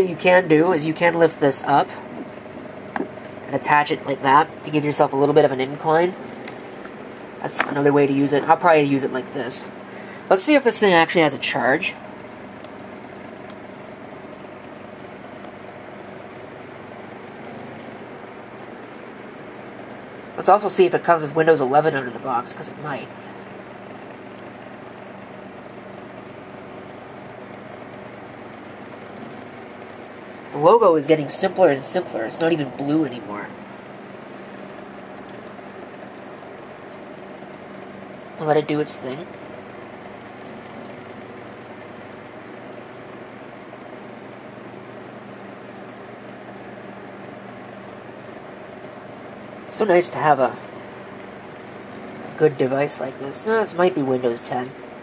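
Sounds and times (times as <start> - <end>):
room hum and hiss: 0.0 - 55.0.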